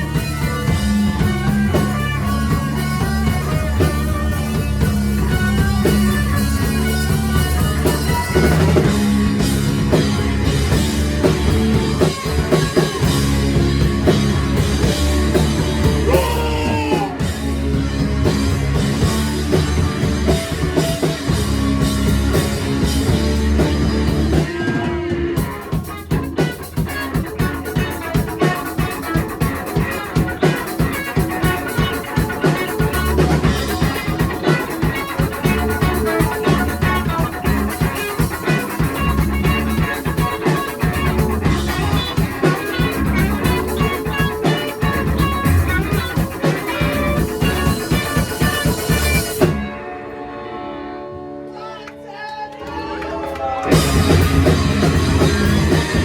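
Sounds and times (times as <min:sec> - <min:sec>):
rock band playing: 0:00.0 - 0:51.5, 0:53.2 - 0:56.0.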